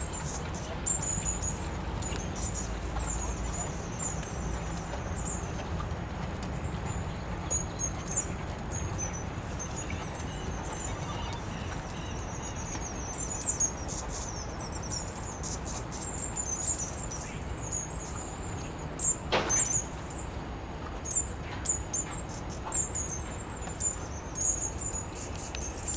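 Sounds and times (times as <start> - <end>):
low background rumble: 0.0 - 25.9
small birds chirping: 0.0 - 25.9.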